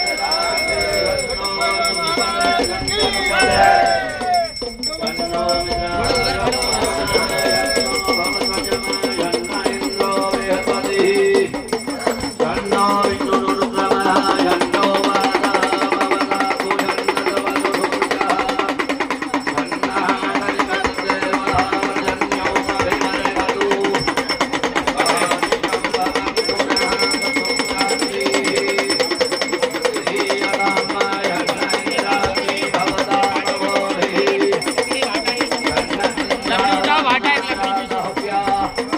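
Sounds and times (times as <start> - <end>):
music with fast percussion beat: 0.0 - 38.9.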